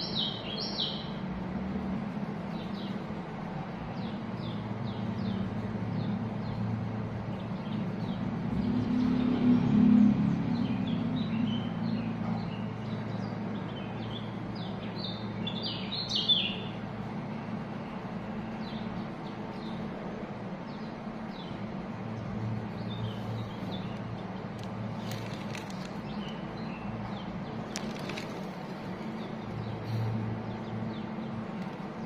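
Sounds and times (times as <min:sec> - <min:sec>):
small birds chirping: 0:00.0 - 0:09.4, 0:10.0 - 0:32.0
steady low hum: 0:00.0 - 0:32.0.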